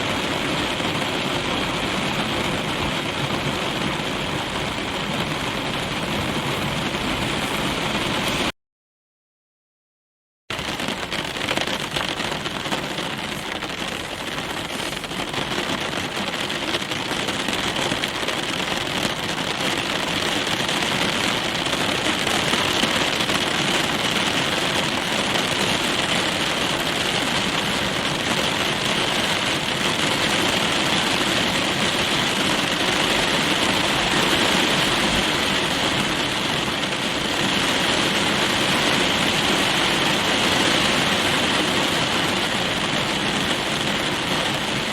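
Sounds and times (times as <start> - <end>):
rain on car roof and windows: 0.0 - 8.5, 10.5 - 44.9.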